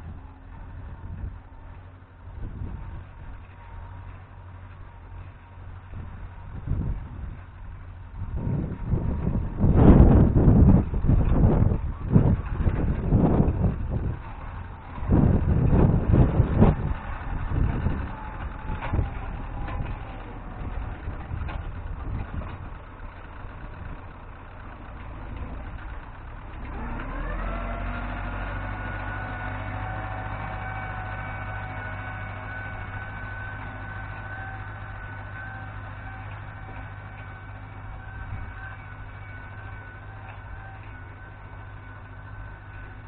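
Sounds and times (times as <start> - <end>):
tractor engine rumbling: 0.0 - 43.0.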